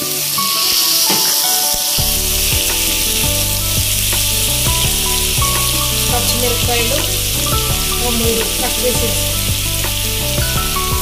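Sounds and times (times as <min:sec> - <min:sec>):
beetroot sizzling in oil: 0:00.0 - 0:11.0.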